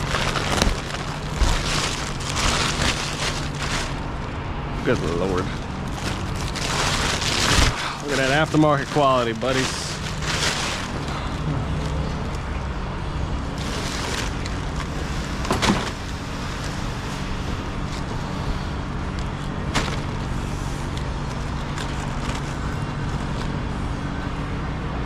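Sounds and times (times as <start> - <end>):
workshop background hum: 0.0 - 25.0.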